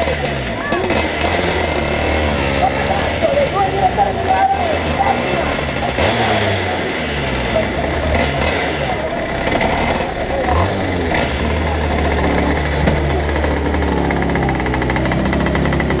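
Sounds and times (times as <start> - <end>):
engine rev blip: 0.0 - 16.0
kart engine idling: 0.0 - 16.0.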